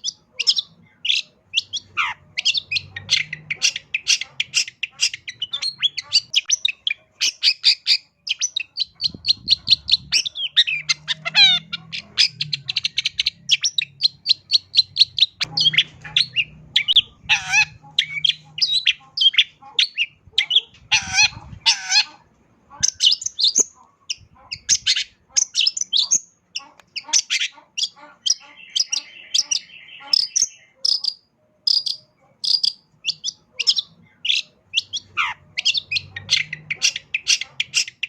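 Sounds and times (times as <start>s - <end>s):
shrike singing chirps and trills: 0.0s - 38.0s.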